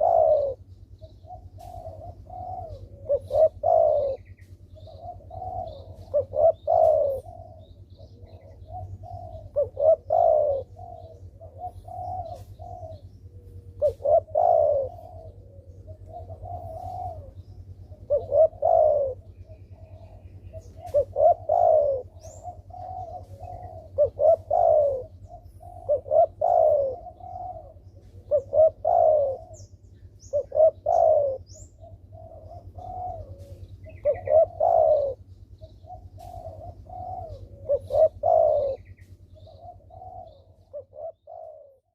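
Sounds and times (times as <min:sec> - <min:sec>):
dove cooing: 0:00.0 - 0:41.9
small birds chirping: 0:00.0 - 0:41.9
steady low hum: 0:00.0 - 0:41.9.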